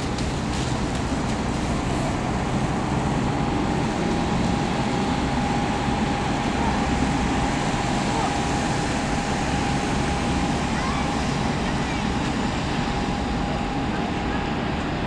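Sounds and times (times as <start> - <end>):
jet engines roaring: 0.0 - 15.0
thin steady whine: 0.0 - 15.0.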